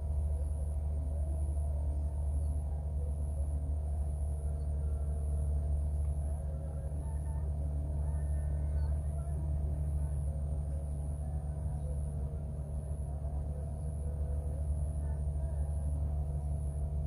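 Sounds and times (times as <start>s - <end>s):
faint pulsing high buzz: 0.0s - 17.0s
low rumble and hum: 0.0s - 17.0s.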